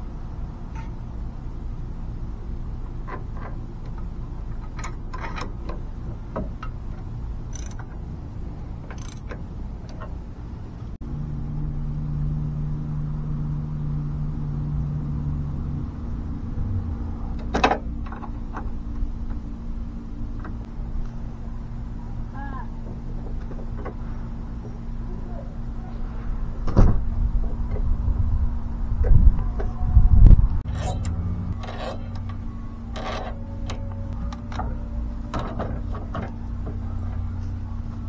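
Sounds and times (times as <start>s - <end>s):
low hum: 0.0s - 38.0s.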